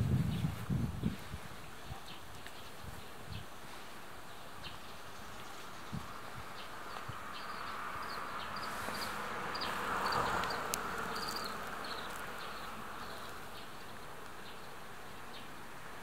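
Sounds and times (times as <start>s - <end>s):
small birds chirping: 0.2s - 16.0s.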